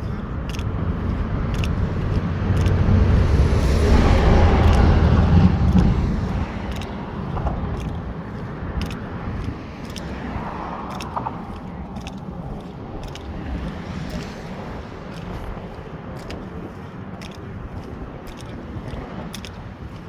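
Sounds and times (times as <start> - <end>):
light footsteps: 0.0 - 20.0
vehicle passing with tyre noise: 0.0 - 20.0.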